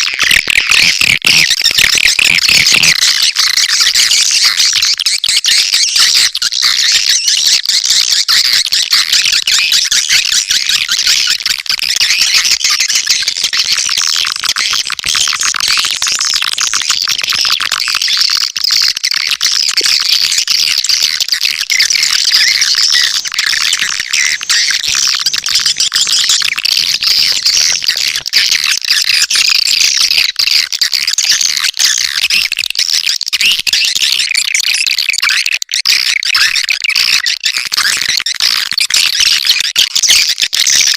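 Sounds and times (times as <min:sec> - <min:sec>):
swiftlets chirping and twittering: 0:00.0 - 0:40.9.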